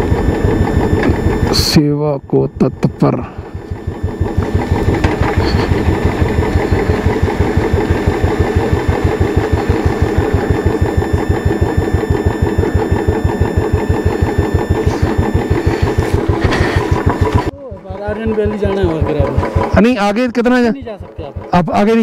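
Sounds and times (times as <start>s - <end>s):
motorcycle engine idling: 0.0s - 1.8s, 2.4s - 22.0s.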